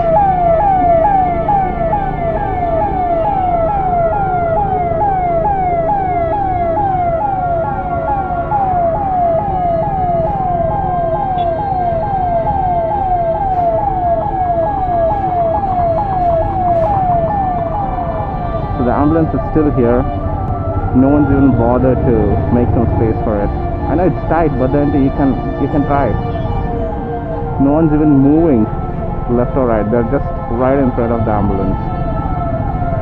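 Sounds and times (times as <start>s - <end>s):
ambulance siren: 0.0s - 33.0s
low traffic rumble: 0.0s - 33.0s.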